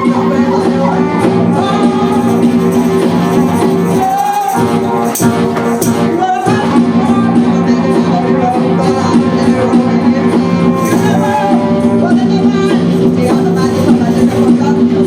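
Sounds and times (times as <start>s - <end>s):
live band music: 0.0s - 15.0s
sharp percussive strokes: 0.0s - 15.0s.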